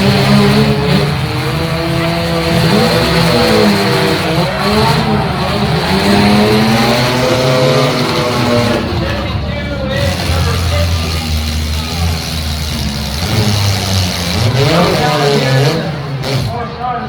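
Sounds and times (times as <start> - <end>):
car engines revving: 0.0 - 17.0
tire noise: 0.0 - 17.0.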